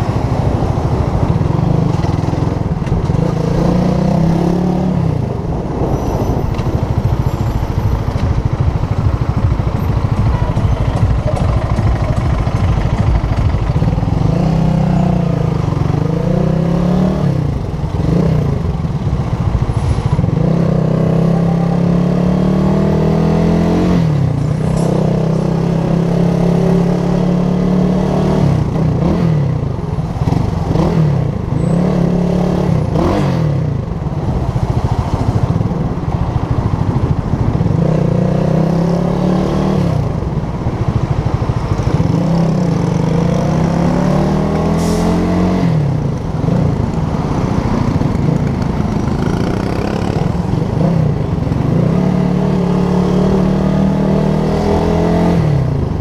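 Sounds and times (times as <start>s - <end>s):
motorcycle engine revving: 0.0s - 5.9s, 7.8s - 19.2s, 20.2s - 56.0s.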